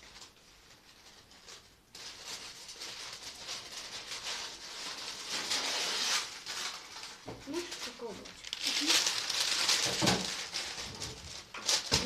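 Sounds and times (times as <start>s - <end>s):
parchment paper rustling: 0.0s - 12.0s.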